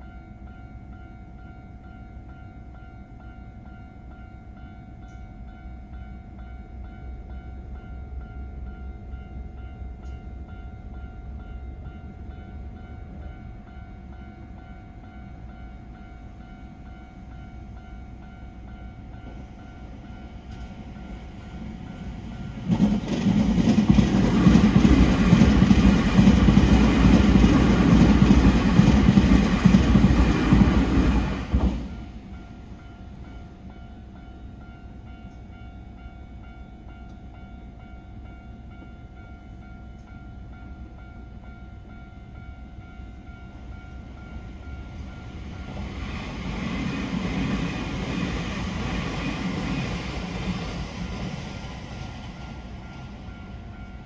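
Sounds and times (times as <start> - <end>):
level-crossing alarm bell ringing: 0.0 - 22.8, 24.4 - 54.0
train passing: 0.0 - 54.0.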